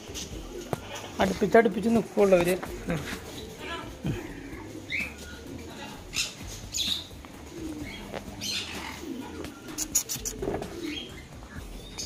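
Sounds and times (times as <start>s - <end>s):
bird cooing: 0.0s - 1.4s, 2.4s - 12.0s
birds chirping: 0.0s - 12.0s.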